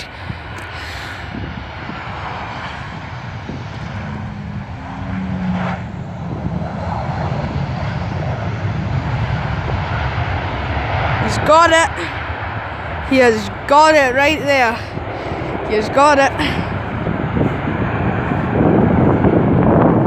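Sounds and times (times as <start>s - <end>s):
jet airliner engines rushing: 0.0s - 20.0s.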